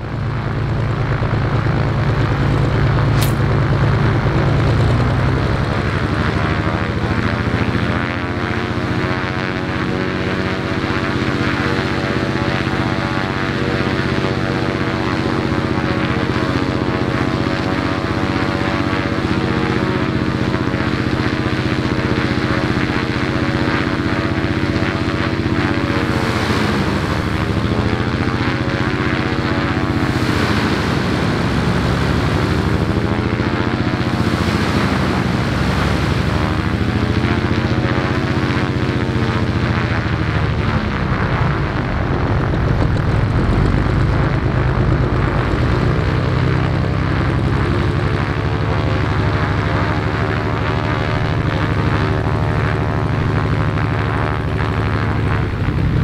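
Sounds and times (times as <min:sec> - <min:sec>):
aircraft engine and propeller running: 0:00.0 - 0:56.0.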